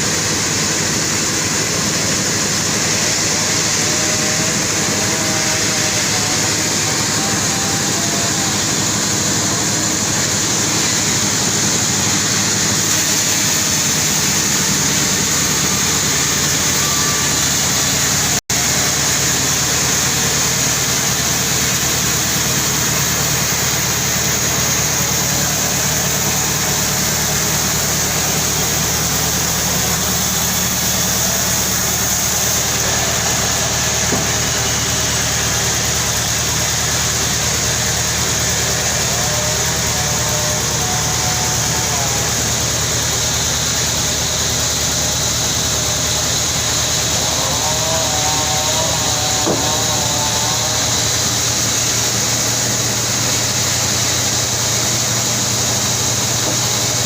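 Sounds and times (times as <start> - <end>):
sawmill machinery sawing log: 0.0 - 57.0.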